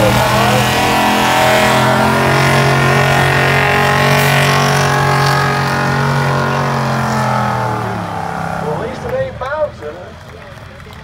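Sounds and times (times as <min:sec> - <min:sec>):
truck engine at high revs: 0:00.0 - 0:10.6.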